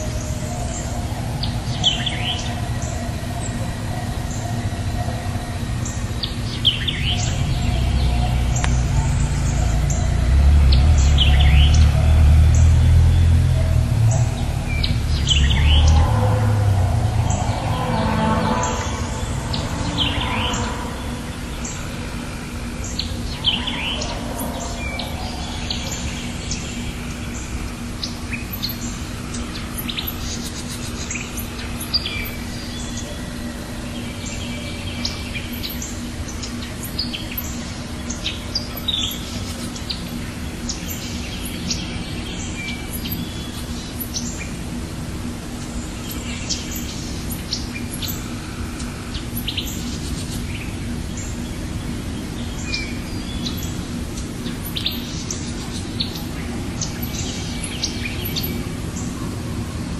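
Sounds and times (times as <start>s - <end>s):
birds chirping and whistling: 0.0s - 59.8s
steady low hum: 0.0s - 59.9s.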